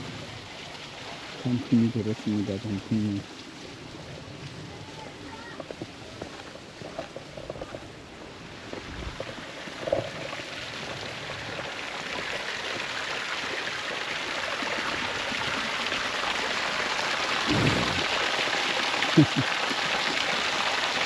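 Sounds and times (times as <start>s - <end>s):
running water rushing and splashing: 0.0s - 21.0s.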